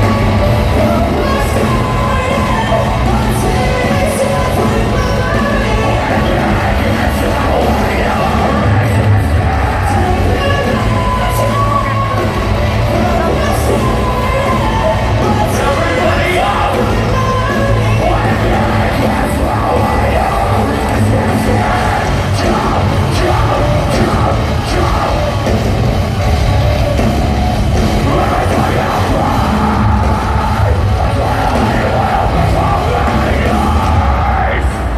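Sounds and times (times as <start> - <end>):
live rock band playing loudly: 0.0 - 34.9
person yelling and singing: 0.0 - 34.9.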